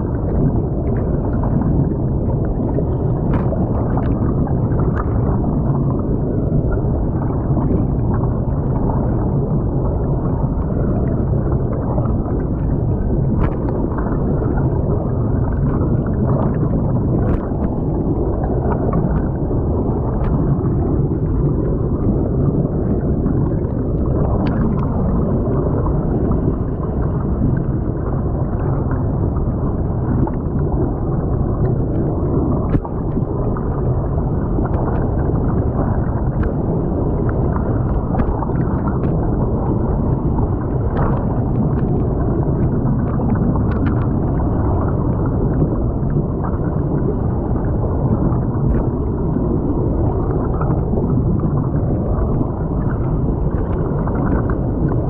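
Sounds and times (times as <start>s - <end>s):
muffled underwater creek rushing: 0.0s - 55.0s.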